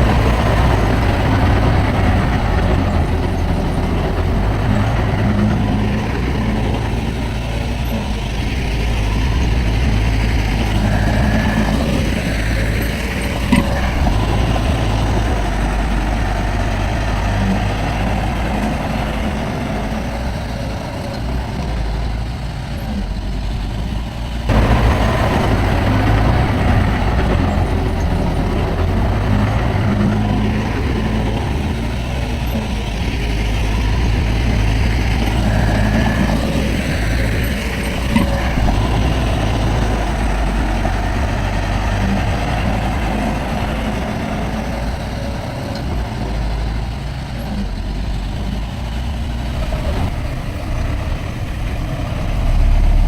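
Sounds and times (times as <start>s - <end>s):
diesel earthmoving machinery running: 0.0s - 53.0s.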